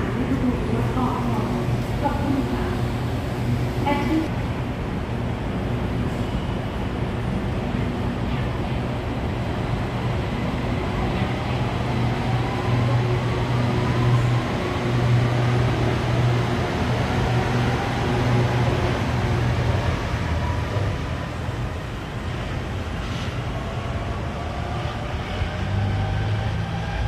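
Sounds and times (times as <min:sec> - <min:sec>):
monorail train rumble: 0:00.0 - 0:27.0.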